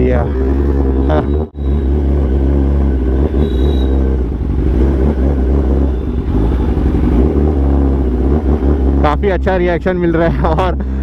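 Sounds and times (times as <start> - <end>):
motorcycle engine running at low revs: 0.0 - 10.8.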